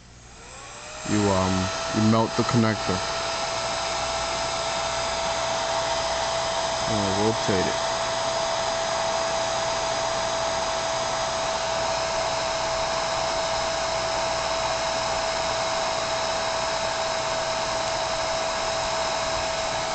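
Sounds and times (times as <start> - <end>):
heat gun blowing air: 0.0 - 19.9
steady whine: 0.0 - 19.9.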